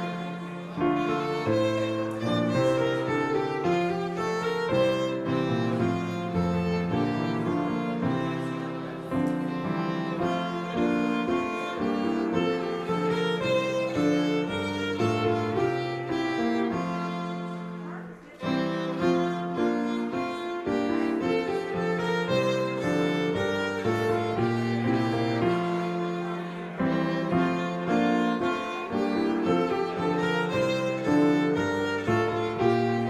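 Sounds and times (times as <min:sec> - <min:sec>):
bowed violin-like sound: 0:00.0 - 0:33.0
slow instrumental music: 0:00.0 - 0:33.0.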